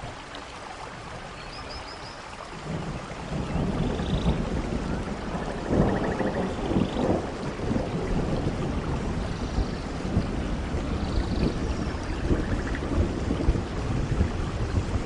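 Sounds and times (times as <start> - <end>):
heavy rainfall: 0.0 - 15.0.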